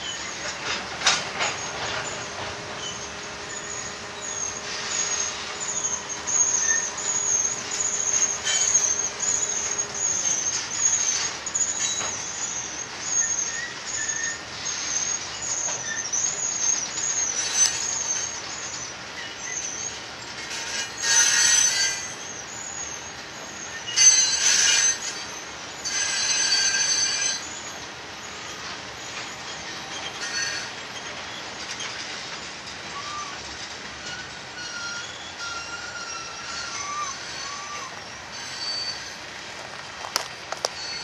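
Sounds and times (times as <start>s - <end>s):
train wheels squealing on rails: 0.0s - 41.0s.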